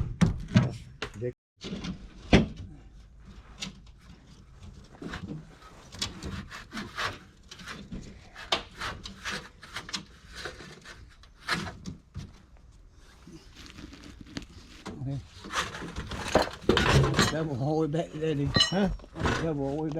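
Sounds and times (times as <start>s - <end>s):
building material scraping and knocking: 0.0s - 19.9s.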